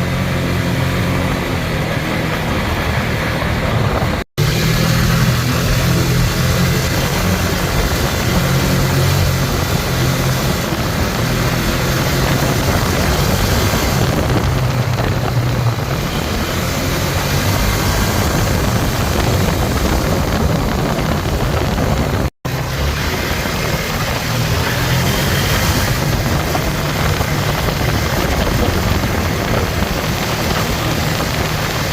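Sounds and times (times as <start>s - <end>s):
atv engine running: 0.0s - 31.9s
constant rushing noise: 0.0s - 31.9s.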